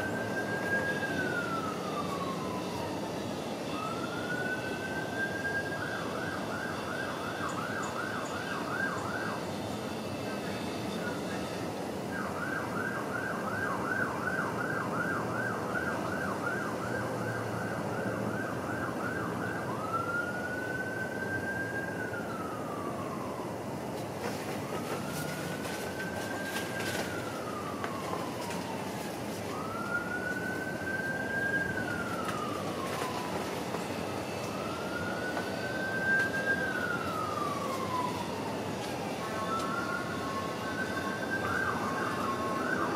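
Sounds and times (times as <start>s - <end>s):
siren yelping and wailing: 0.0s - 23.8s, 24.5s - 42.9s
steady background noise: 0.0s - 42.9s.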